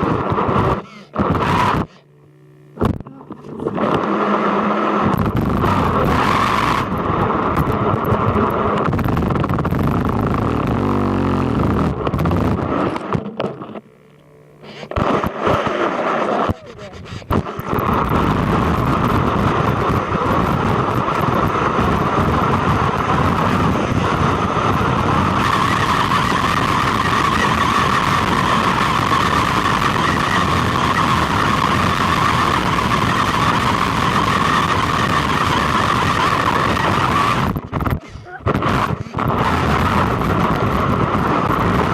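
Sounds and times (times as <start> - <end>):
electric motor whine: 0.0 - 41.9.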